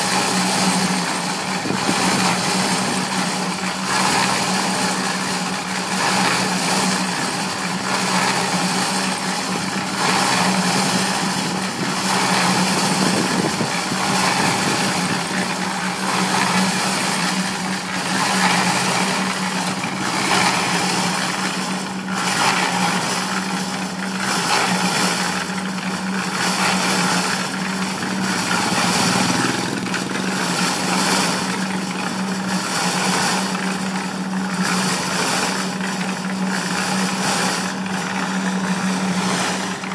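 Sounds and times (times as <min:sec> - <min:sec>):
concrete mixer motor hum: 0:00.0 - 0:39.9
rattling churn of turning drum: 0:00.0 - 0:39.9.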